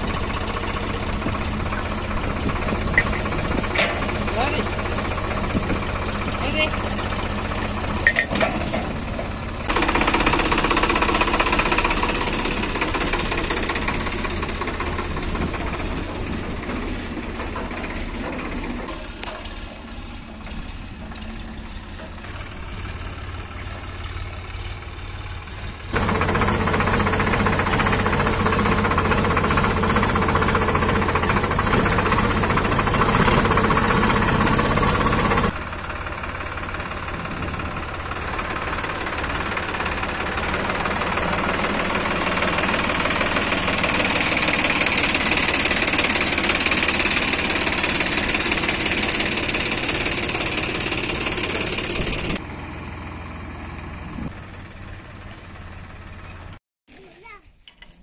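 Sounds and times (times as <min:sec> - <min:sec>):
tractor diesel engine running: 0:00.0 - 0:56.6.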